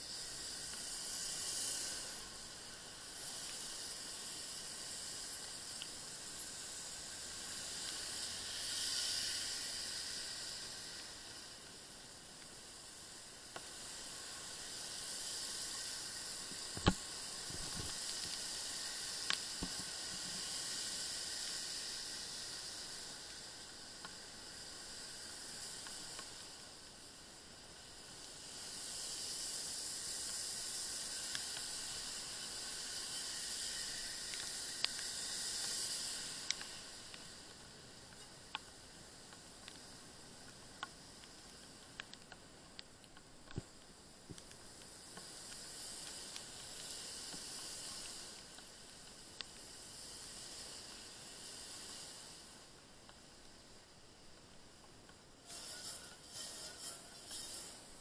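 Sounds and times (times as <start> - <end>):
tyres hissing on wet asphalt: 0.0 - 58.0.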